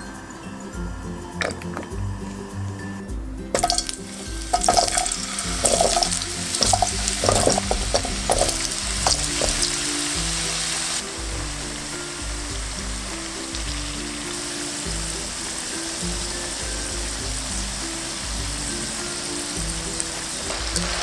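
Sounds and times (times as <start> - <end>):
food frying in oil: 3.5 - 21.0.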